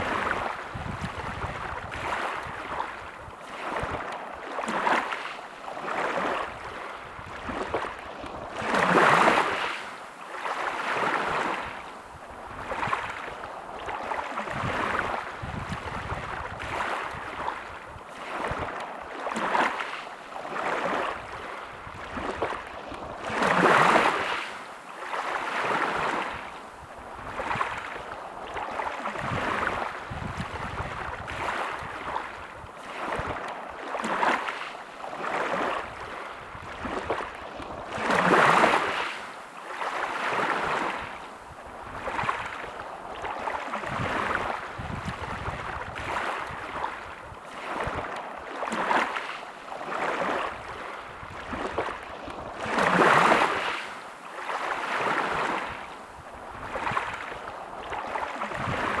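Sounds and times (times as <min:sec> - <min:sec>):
waves breaking: 0:00.0 - 0:59.0
waves washing on shore: 0:00.0 - 0:59.0.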